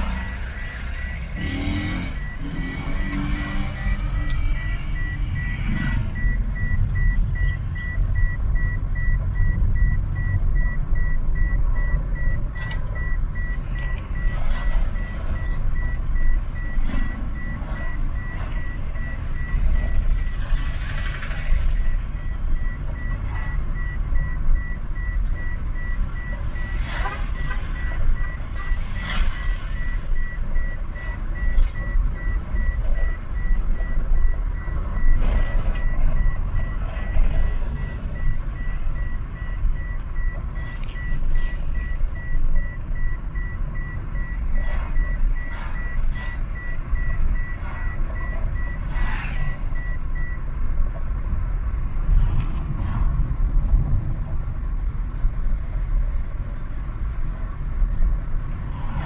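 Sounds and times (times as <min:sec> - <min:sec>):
high electronic beep: 0:00.0 - 0:20.4, 0:21.8 - 0:50.4
car road and engine rumble: 0:00.0 - 0:59.0.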